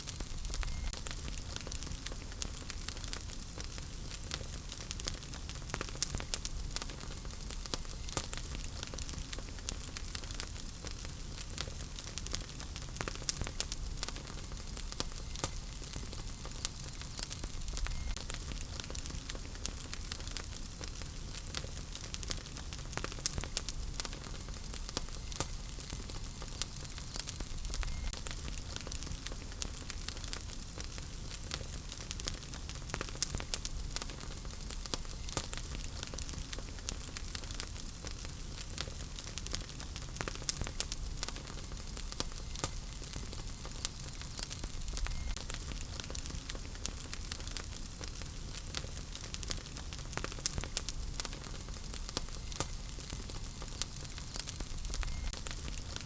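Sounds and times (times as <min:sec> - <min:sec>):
fire hissing: 0:00.0 - 0:56.0
logs crackling and popping: 0:00.0 - 0:56.0.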